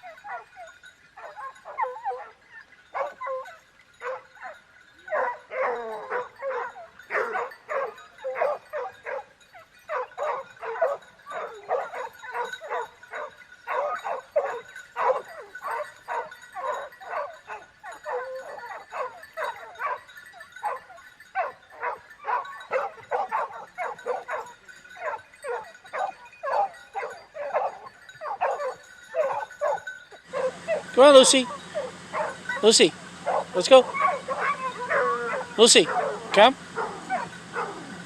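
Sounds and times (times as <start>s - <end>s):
dog yipping and barking: 0.0s - 38.0s.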